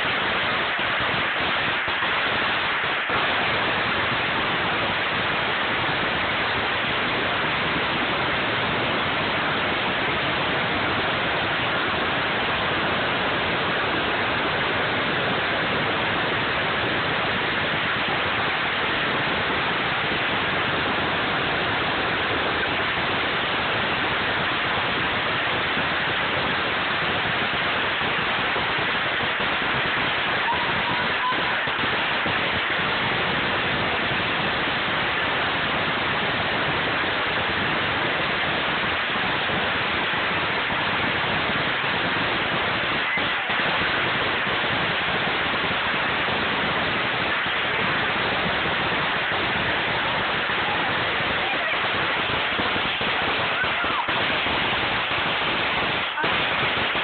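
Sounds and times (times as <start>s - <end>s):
firecracker string crackling: 0.0s - 57.0s.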